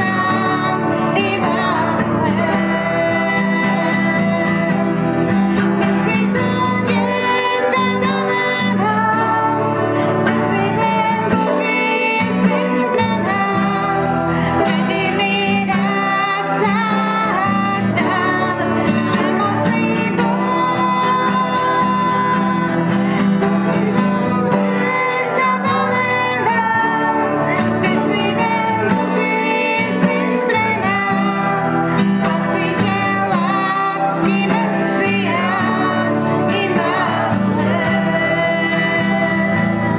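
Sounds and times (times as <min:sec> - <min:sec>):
instrumental accompaniment: 0:00.0 - 0:39.9
worship song singing: 0:00.0 - 0:39.9.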